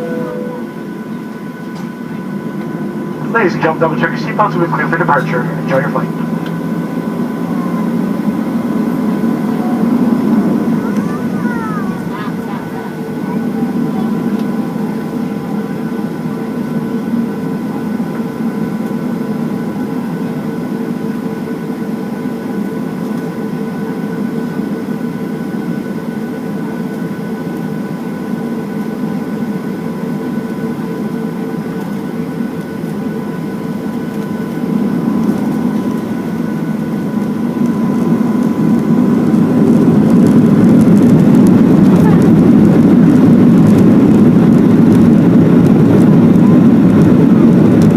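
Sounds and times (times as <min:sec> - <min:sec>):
jet engines whining: 0:00.0 - 0:47.9.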